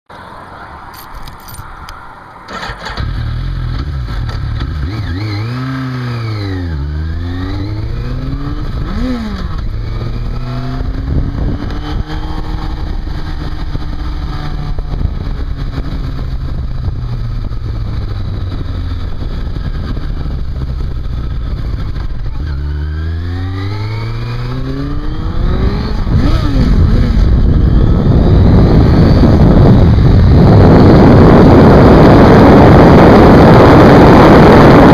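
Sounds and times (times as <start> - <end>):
motorcycle engine accelerating: 2.5 - 34.9
wind rush: 6.2 - 34.9.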